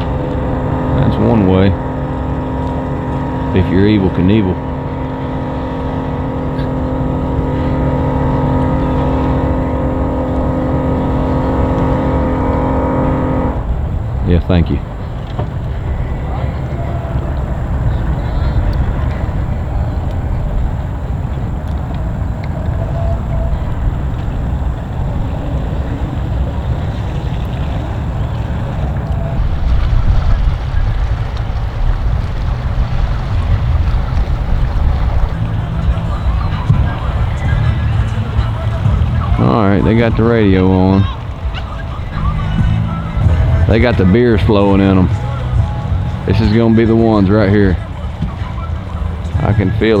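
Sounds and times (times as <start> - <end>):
boat engine running: 0.0 - 50.0
wind buffeting microphone: 0.0 - 50.0.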